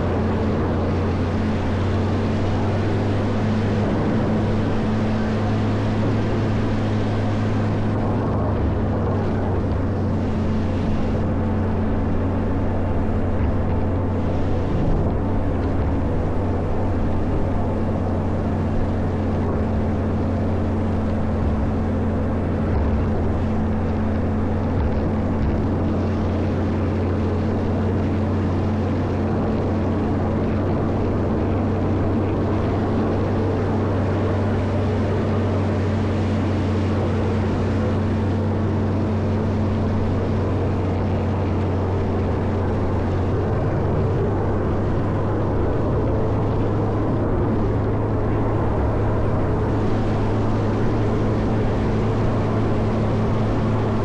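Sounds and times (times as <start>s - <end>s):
diesel engine running steadily: 0.0s - 54.0s.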